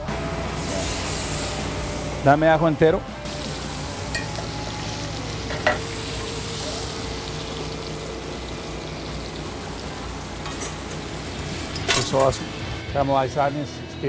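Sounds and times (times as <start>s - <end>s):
steak sizzling in skillet: 0.2s - 12.8s.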